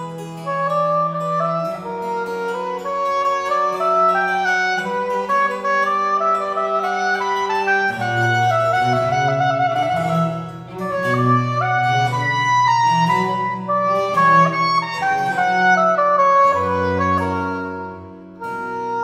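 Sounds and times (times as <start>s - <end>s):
cello: 0.0s - 19.0s
harpsichord: 0.0s - 19.0s
oboe melody: 0.0s - 19.0s.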